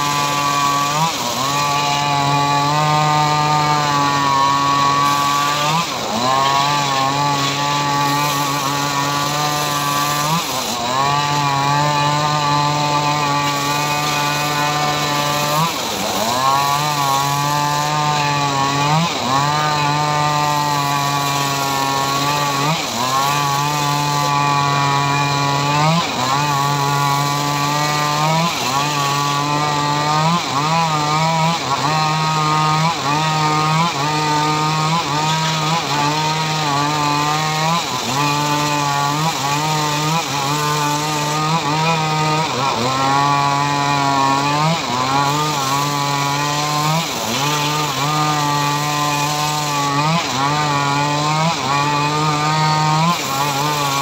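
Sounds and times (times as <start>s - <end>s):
circular saw ripping wood: 0.0s - 54.0s.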